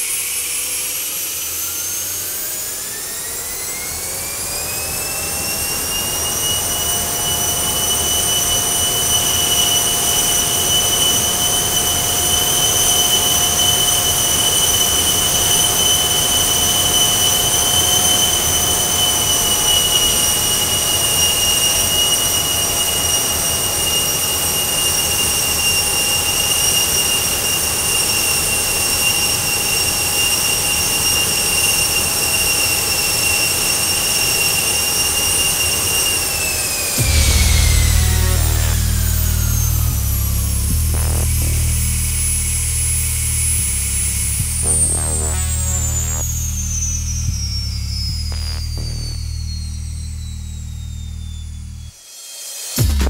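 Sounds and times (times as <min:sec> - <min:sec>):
jet engine turbine whine: 0:00.0 - 0:53.0.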